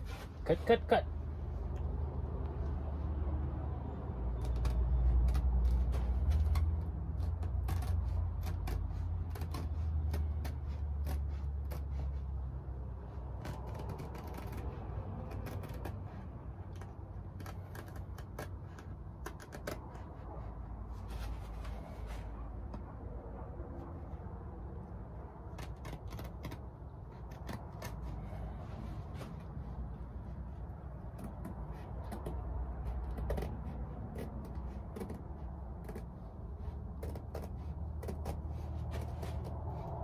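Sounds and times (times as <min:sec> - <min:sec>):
scissors snipping fabric: 0:04.1 - 0:21.0, 0:24.8 - 0:40.0.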